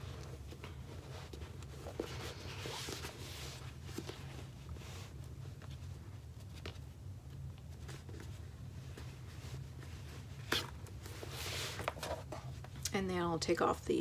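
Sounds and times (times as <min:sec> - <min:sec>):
cloth rustling and rubbing: 0:00.0 - 0:12.8
steady low hum: 0:00.0 - 0:14.0.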